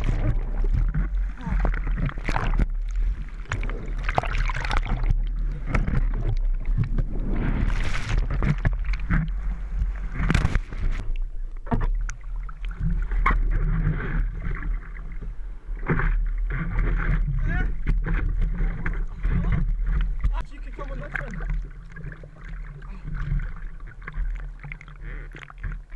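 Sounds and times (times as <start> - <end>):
whitewater churning and splashing: 0.0 - 11.1, 15.8 - 25.9
low rumble: 0.0 - 24.6.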